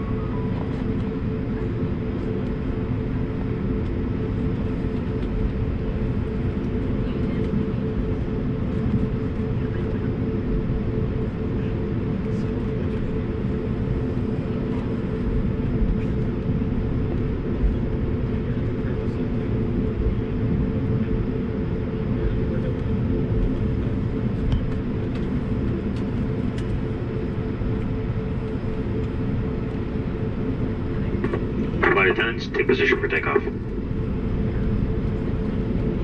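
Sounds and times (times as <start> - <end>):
jet engines humming: 0.0 - 36.0.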